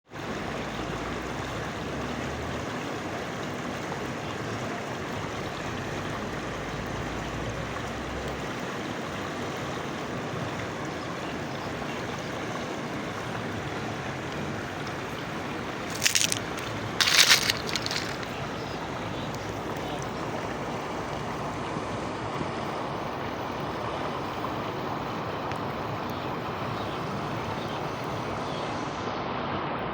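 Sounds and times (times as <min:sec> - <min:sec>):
water rushing: 0:00.1 - 0:29.9.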